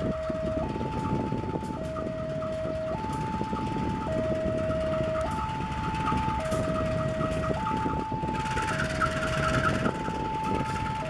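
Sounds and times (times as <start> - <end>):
diesel locomotive rumble: 0.0 - 11.0
two-tone level crossing alarm: 0.0 - 11.0.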